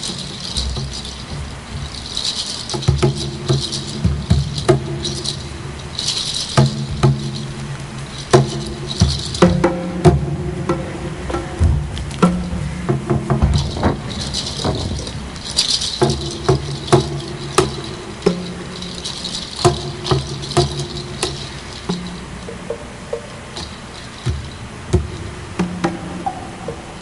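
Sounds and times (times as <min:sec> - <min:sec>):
low held tones: 0:00.0 - 0:27.0
rattling shaker: 0:00.0 - 0:27.0
wood block or drum strikes: 0:00.0 - 0:27.0.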